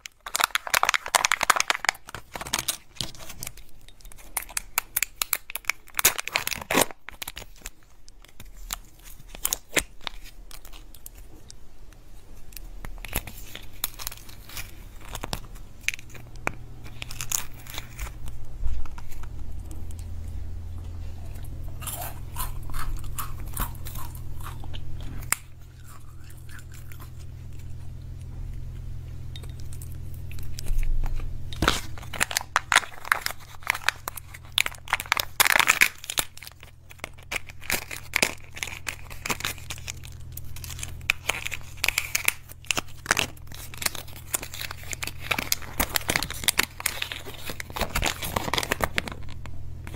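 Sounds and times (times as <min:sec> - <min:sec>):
plastic packaging crinkling: 0:00.0 - 0:28.2, 0:29.3 - 0:49.9
steady low hum: 0:00.0 - 0:49.9.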